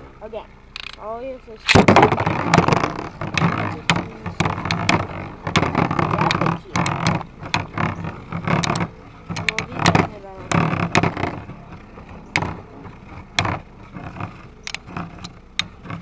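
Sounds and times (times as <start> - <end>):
spinning tops clicking and knocking: 0.7 - 1.0, 1.6 - 16.0
spinning tops whirring: 0.7 - 16.0.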